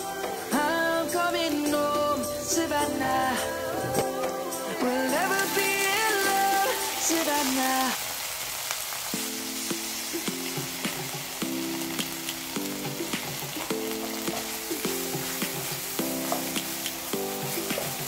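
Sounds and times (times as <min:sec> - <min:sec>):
vegetables sizzling in frying pan: 0:00.0 - 0:18.0.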